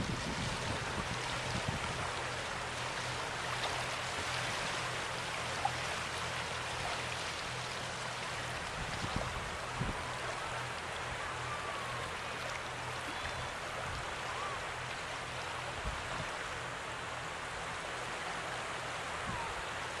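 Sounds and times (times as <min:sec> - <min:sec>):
boat engine drone: 0:00.0 - 0:20.0
water rushing: 0:00.0 - 0:20.0.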